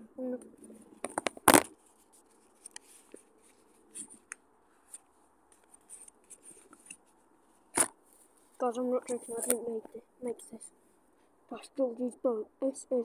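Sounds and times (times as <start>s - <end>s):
faint rubbing and scraping: 0.3s - 11.4s.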